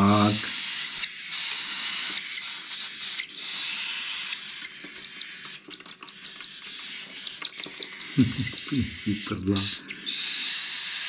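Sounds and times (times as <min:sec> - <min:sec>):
chick chirping: 0:00.1 - 0:11.0
bird chick begging call: 0:00.6 - 0:11.0.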